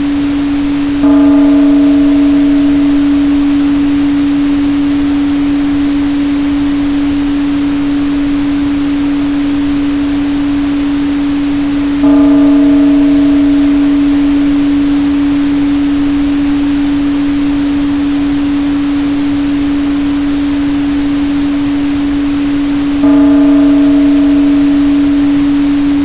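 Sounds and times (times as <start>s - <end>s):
high ringing overtones: 0.0s - 26.0s
pure sine tone: 0.0s - 26.0s.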